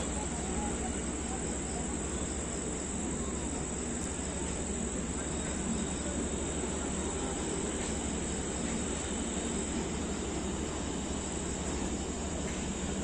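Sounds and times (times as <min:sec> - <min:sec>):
insects chirring: 0:00.0 - 0:13.0
train rumbling past: 0:00.0 - 0:13.0.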